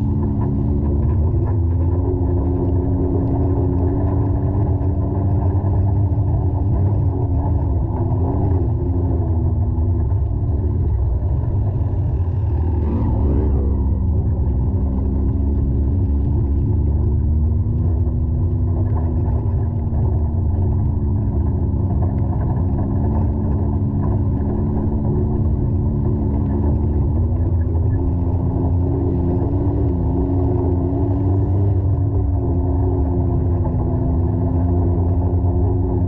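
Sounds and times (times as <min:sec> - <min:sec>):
muffled engine rumble: 0:00.0 - 0:36.0.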